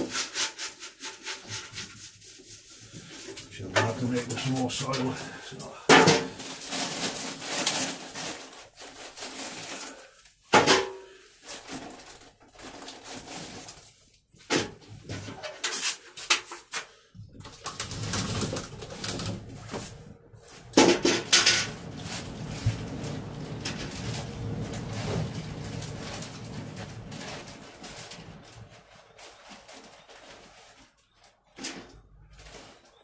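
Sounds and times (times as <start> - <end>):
plastic baskets and soil knocking: 2.9 - 33.0.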